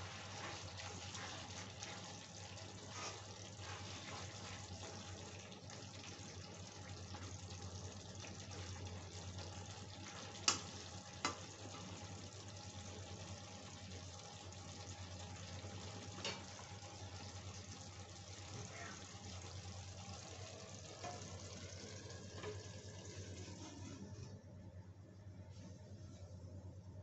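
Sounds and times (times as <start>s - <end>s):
vegetables sizzling: 0.0s - 24.2s.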